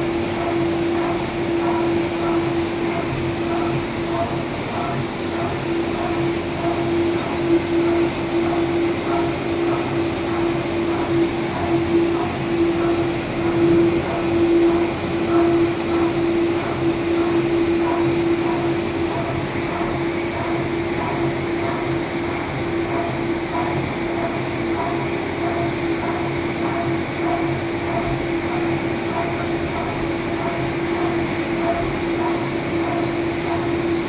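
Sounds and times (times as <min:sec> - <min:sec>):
machining centre humming: 0:00.0 - 0:34.0.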